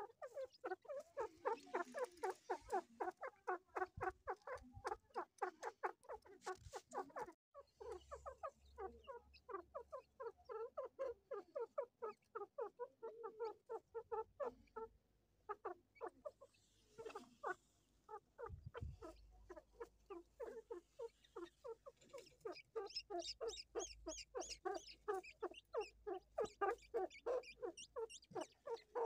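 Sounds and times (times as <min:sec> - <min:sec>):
chicks cheeping: 0:00.0 - 0:14.9, 0:15.5 - 0:29.0.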